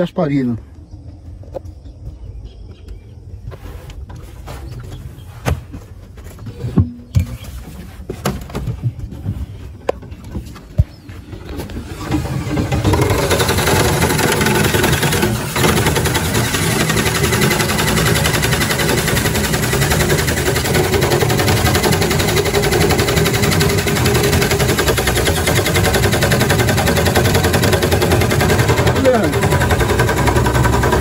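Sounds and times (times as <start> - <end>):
small boat motor popping: 5.5 - 31.0.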